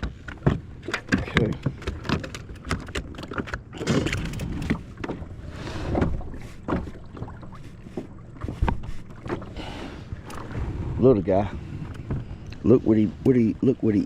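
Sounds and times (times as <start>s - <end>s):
knocks and clatter on plastic boat: 0.0s - 10.6s, 11.3s - 13.4s
water splashing: 0.6s - 14.0s.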